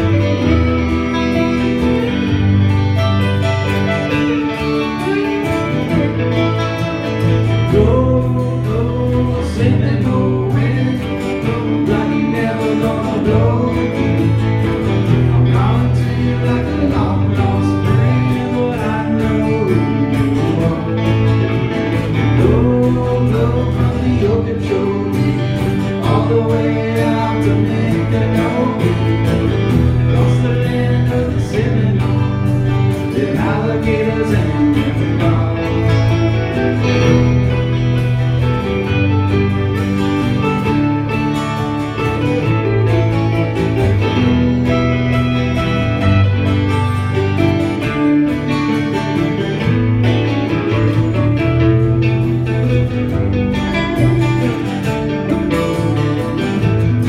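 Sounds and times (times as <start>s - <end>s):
country band playing: 0.0s - 57.0s
lead guitar bending notes: 0.0s - 57.0s.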